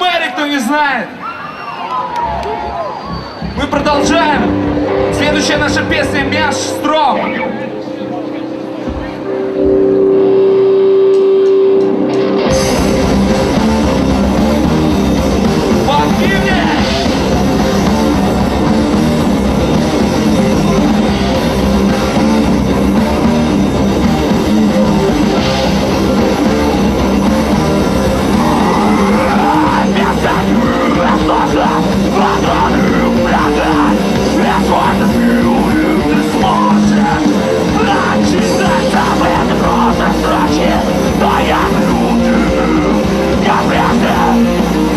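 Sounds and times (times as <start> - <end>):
live heavy rock band: 0.0 - 44.9.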